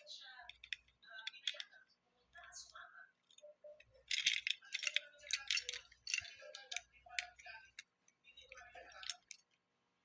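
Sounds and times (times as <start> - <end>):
plastic bricks clicking and rattling: 0.0 - 9.6.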